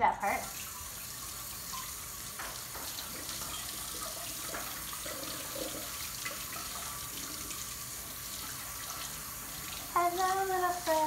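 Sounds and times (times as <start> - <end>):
water splashing and dripping: 0.2 - 11.0.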